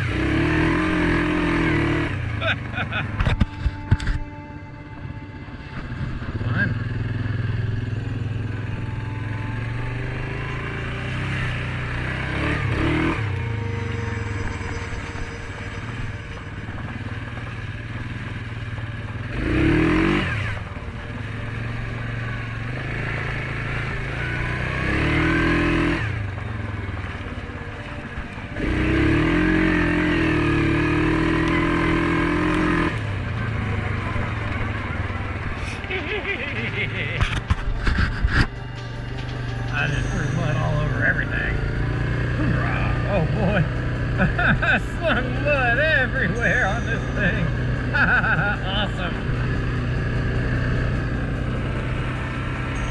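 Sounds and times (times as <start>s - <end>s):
atv engine revving: 0.0s - 4.3s, 5.0s - 52.9s.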